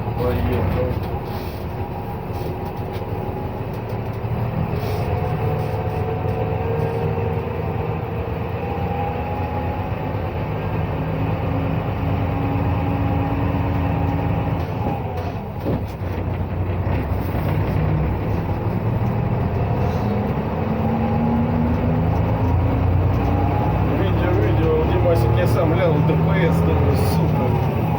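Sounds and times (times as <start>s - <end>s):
bus diesel engine drone: 0.0s - 27.9s
engine whine: 0.0s - 27.9s.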